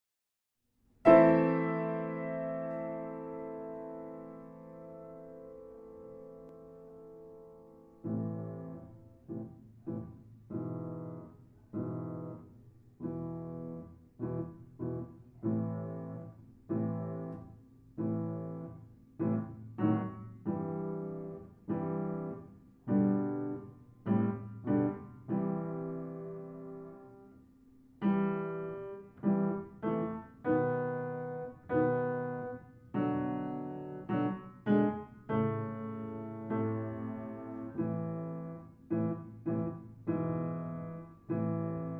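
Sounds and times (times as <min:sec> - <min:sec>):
piano chords: 0:01.0 - 0:41.9.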